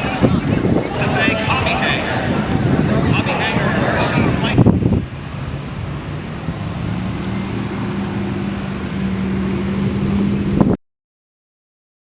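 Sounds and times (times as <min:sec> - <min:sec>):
engine running steadily: 0:00.0 - 0:10.8
rushing background noise: 0:00.0 - 0:10.8.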